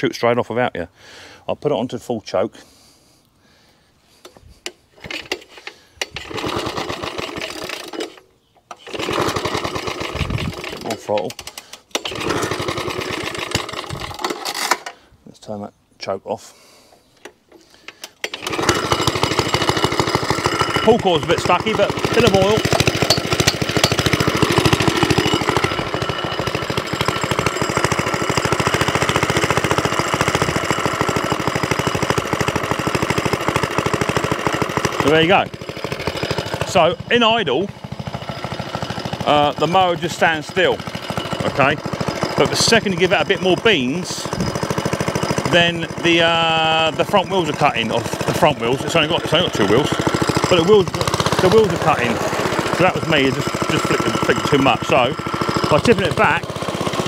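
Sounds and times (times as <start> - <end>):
small petrol engine popping: 5.0 - 15.0, 17.2 - 57.0.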